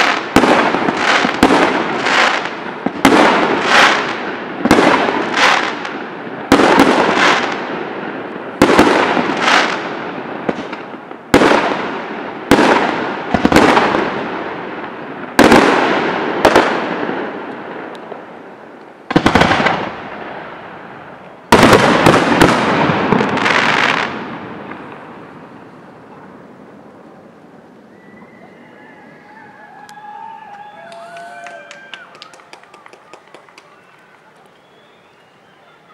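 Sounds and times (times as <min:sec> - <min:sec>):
crackling echo: 0:00.0 - 0:35.9.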